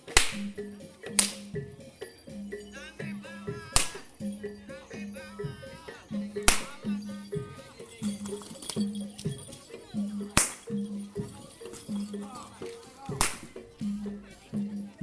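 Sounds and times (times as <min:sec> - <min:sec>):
gamelan music: 0:00.0 - 0:15.0
wavering high melody: 0:00.0 - 0:15.0.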